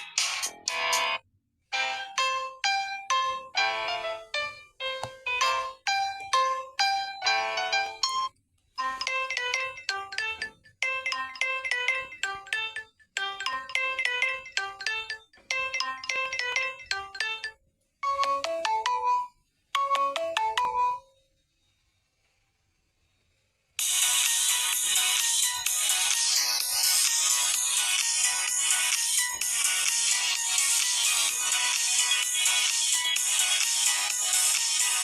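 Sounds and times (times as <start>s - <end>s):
phone alarm bell melody: 1.7s - 21.2s, 23.8s - 35.0s.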